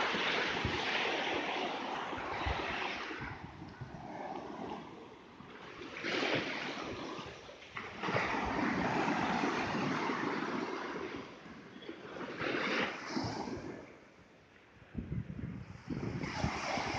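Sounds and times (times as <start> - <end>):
small waves breaking on sand: 0.0 - 16.9.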